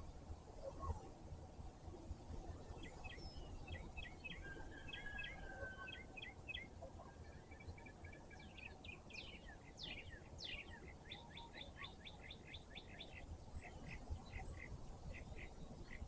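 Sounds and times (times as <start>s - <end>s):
faint low background noise: 0.0s - 16.0s
songbird singing: 2.4s - 16.0s.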